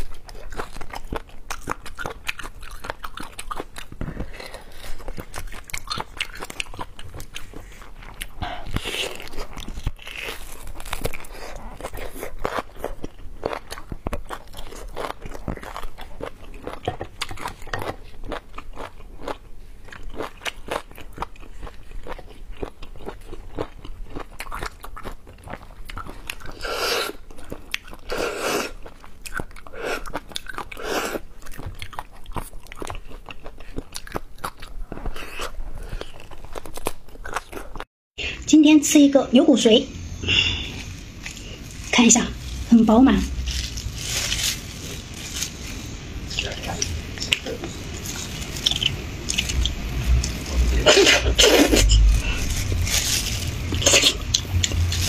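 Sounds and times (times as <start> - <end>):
person chewing meat on bone: 0.0 - 37.9, 43.3 - 50.8, 51.4 - 55.0.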